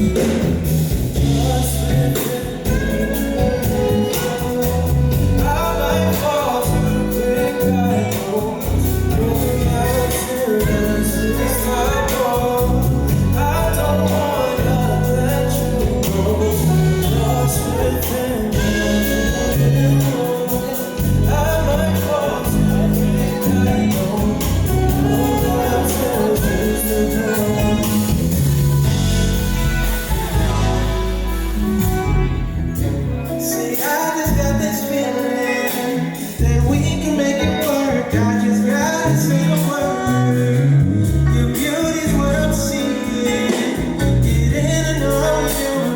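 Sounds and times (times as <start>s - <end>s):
live soul band: 0.0s - 45.9s
person singing lead vocal: 0.0s - 45.9s.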